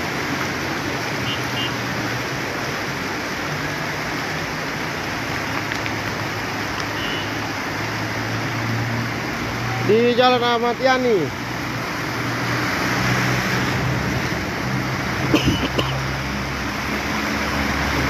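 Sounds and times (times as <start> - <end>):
floodwater rushing: 0.0 - 18.0
minibus engine humming: 0.0 - 18.0.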